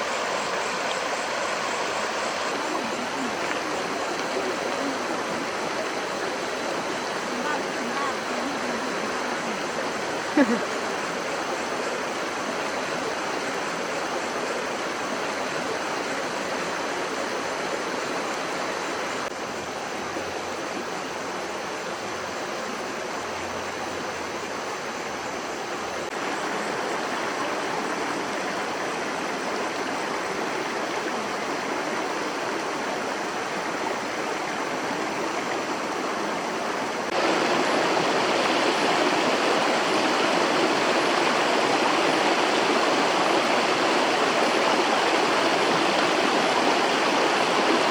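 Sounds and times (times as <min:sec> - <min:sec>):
stream flowing over rocks: 0:00.0 - 0:47.9.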